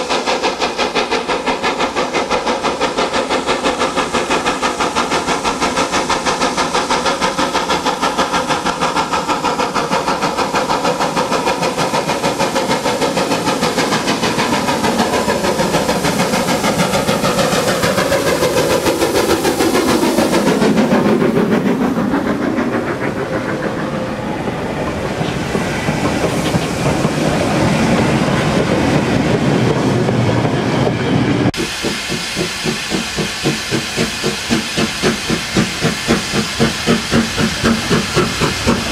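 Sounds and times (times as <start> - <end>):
loud steam hiss: 0.0 - 38.9
slow heavy steam chuffs: 0.0 - 38.9
steam locomotive exhaust beats: 0.0 - 38.9.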